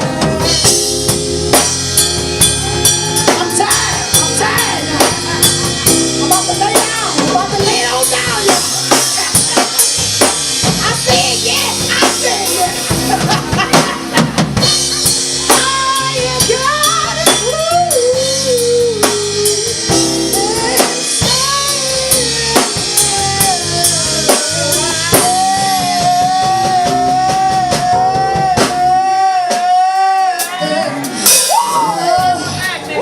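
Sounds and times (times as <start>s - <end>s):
wavering melody line: 0.0s - 26.8s
drum kit rimshots: 0.0s - 33.0s
live band playing: 0.0s - 33.0s.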